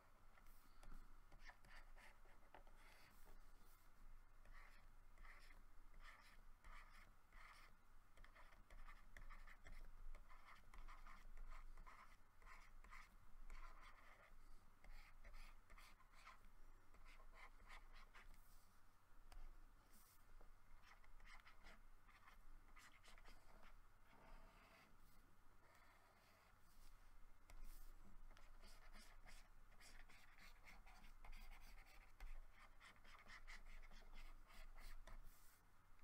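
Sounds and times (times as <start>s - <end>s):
pen scratching on paper: 0.4s - 3.8s, 4.4s - 18.4s, 20.8s - 24.9s, 25.6s - 26.9s, 27.5s - 35.5s.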